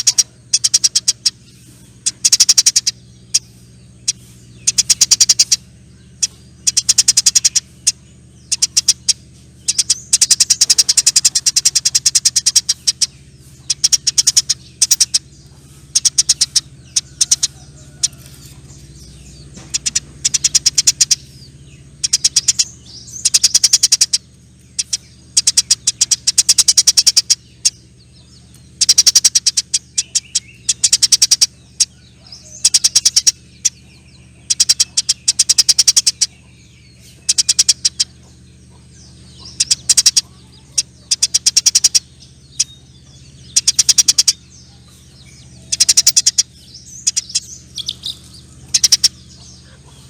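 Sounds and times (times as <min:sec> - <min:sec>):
faint low hum: 0:00.0 - 0:50.0
sparrow chattering: 0:00.0 - 0:50.0.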